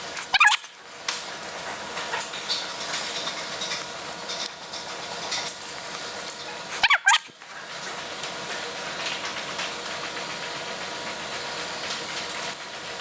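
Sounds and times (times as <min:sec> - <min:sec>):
hissing room noise: 0:00.0 - 0:13.0.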